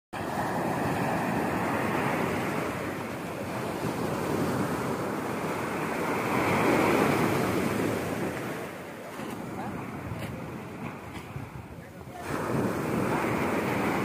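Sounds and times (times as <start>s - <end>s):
surf breaking on beach: 0.2s - 14.0s.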